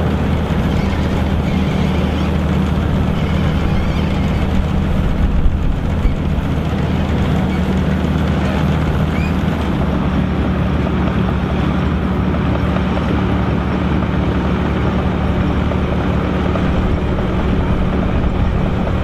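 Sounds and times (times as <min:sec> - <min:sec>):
combine harvester engine drone: 0:00.0 - 0:19.0
threshing machinery noise: 0:00.0 - 0:19.0.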